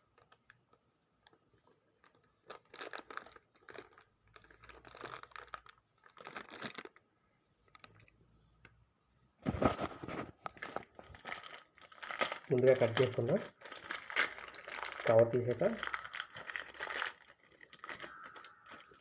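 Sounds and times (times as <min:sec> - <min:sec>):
plastic packaging crinkling: 0:00.0 - 0:07.0, 0:09.4 - 0:19.0.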